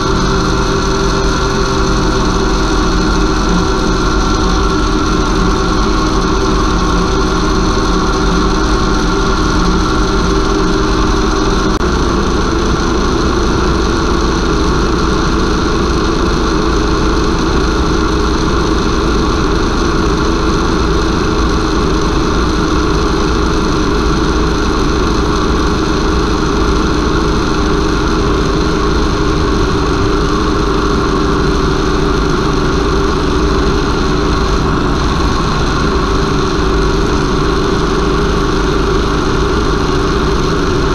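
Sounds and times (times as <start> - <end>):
electric motor hum: 0.0 - 40.9.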